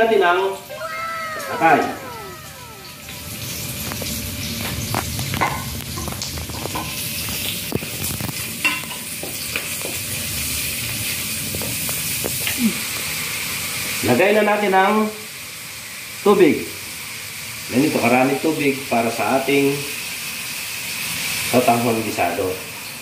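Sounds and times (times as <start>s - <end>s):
meat sizzling in a wok: 4.0s - 23.0s.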